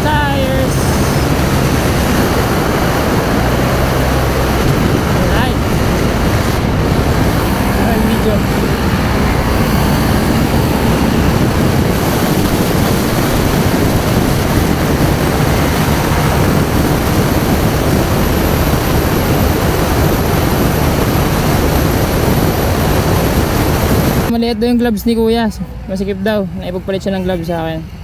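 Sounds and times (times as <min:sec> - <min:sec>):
motorcycle engine running: 0:00.0 - 0:24.3
wind and road noise: 0:00.0 - 0:28.0.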